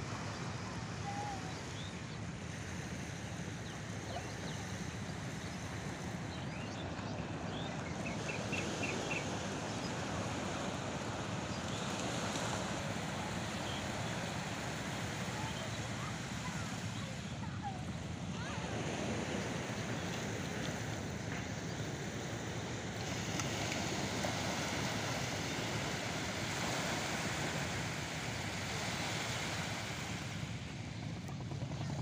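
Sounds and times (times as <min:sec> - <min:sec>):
surf washing: 0:00.0 - 0:32.0.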